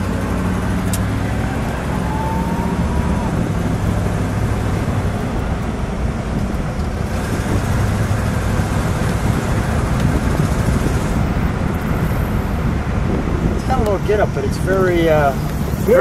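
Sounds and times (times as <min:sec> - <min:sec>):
car engine running: 0:00.0 - 0:16.0
wind and road noise: 0:00.0 - 0:16.0.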